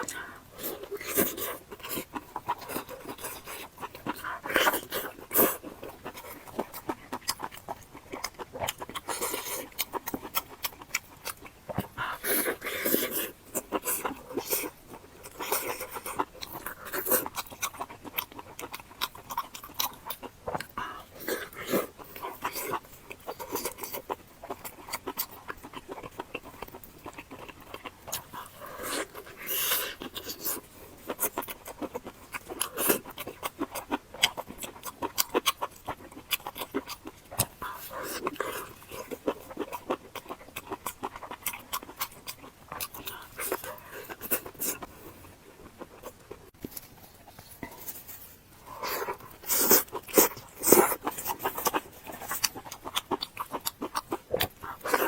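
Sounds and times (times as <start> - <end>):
chewing and smacking mouth sounds: 0.0 - 55.0.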